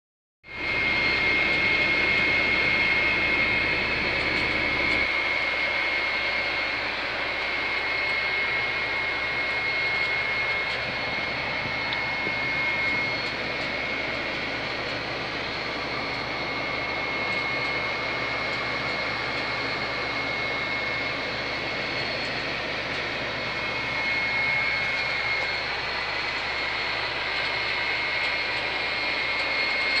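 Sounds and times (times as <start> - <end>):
high wind whistle: 0.6 - 28.2.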